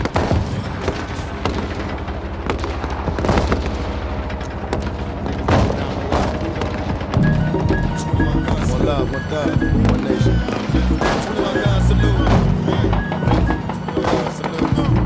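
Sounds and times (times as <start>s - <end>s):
gunfire-like bangs and booms: 0.0s - 15.0s.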